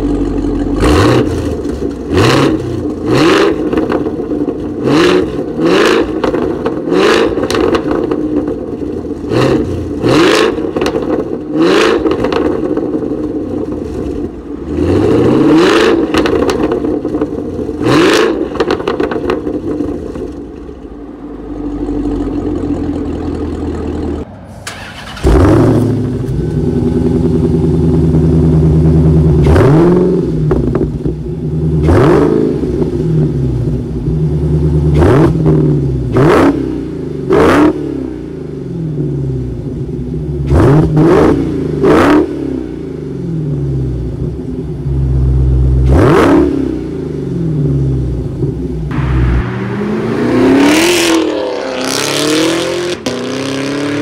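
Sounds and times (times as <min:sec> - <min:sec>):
car engine revving and idling: 0:00.0 - 0:54.0
loud car engine blips: 0:00.0 - 0:54.0.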